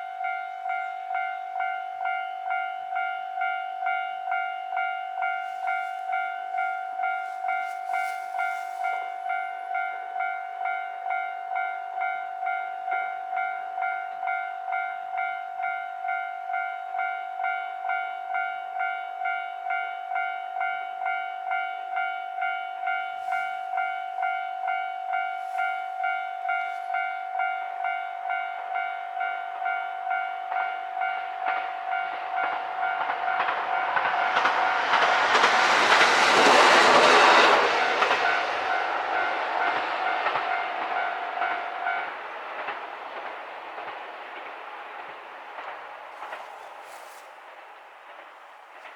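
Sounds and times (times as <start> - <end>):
level crossing warning bell ringing: 0.0 - 35.0, 36.2 - 42.3
railcar passing: 0.0 - 48.9.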